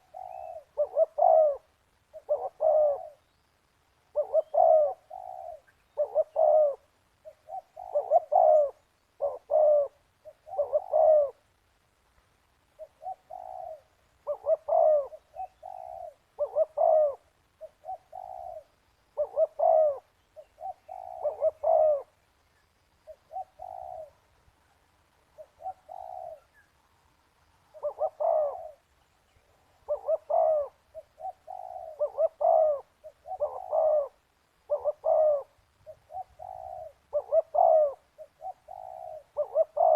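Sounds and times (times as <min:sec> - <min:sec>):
dove cooing: 0:00.0 - 0:11.6, 0:12.8 - 0:22.3, 0:23.0 - 0:24.4, 0:25.3 - 0:26.8, 0:27.6 - 0:39.9.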